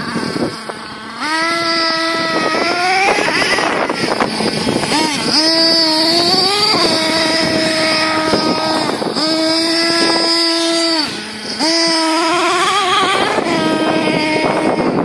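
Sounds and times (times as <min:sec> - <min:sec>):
small nitro engine whining: 0:00.0 - 0:15.0.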